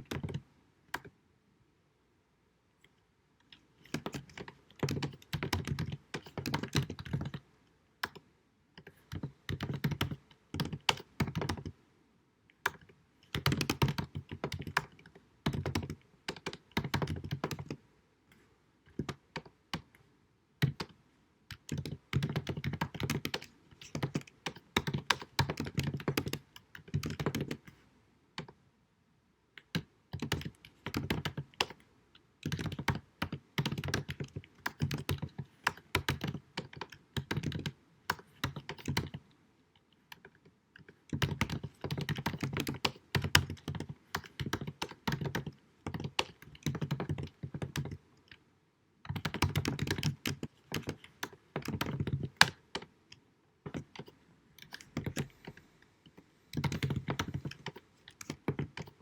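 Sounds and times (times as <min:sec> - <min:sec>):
computer keyboard typing: 0:00.0 - 0:01.1, 0:03.5 - 0:07.4, 0:08.0 - 0:08.2, 0:08.8 - 0:11.8, 0:12.6 - 0:17.8, 0:18.9 - 0:19.9, 0:20.6 - 0:27.8, 0:29.6 - 0:31.8, 0:32.4 - 0:39.2, 0:40.1 - 0:48.4, 0:49.1 - 0:52.9, 0:53.7 - 0:55.6, 0:56.5 - 0:59.0.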